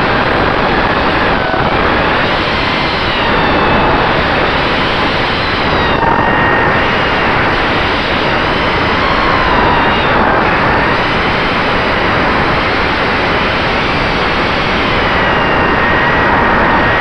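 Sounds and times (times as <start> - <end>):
drone motors whining: 0.0 - 17.0
wind noise on microphone: 0.0 - 17.0.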